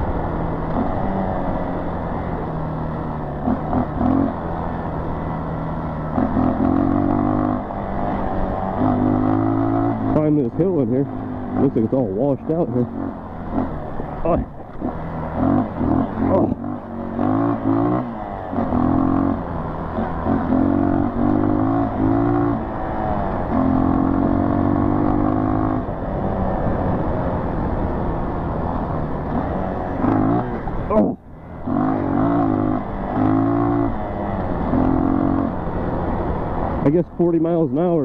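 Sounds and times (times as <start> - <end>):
dirt bike engine revving: 0.7 - 2.5, 3.3 - 26.5, 29.2 - 35.7.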